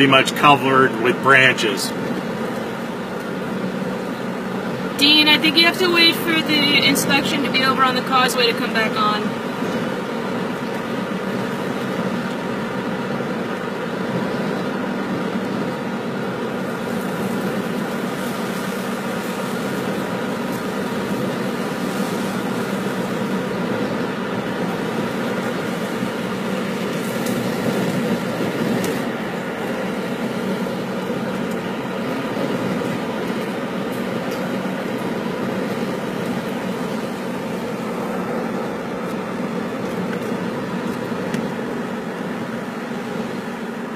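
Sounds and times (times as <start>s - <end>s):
car road noise from inside: 0.0s - 43.9s.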